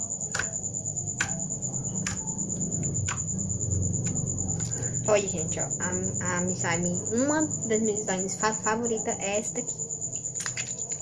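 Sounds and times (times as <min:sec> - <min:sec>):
steady high-pitched tone: 0:00.0 - 0:11.0.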